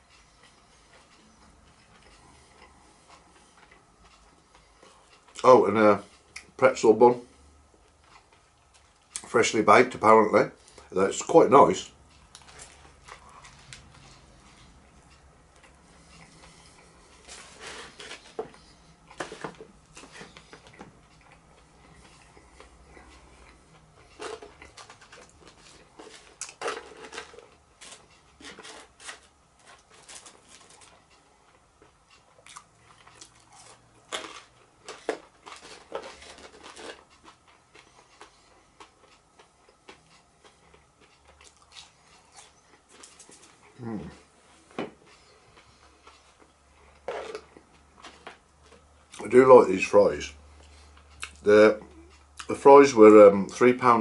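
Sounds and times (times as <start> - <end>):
person chewing and eating: 0.0 - 5.4, 7.3 - 9.3, 12.1 - 49.4, 50.4 - 52.6.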